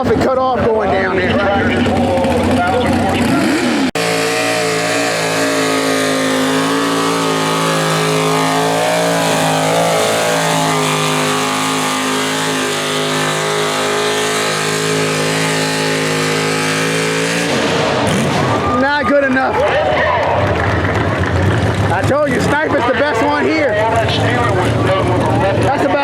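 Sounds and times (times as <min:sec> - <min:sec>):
tractor engine at high revs: 0:00.0 - 0:26.0.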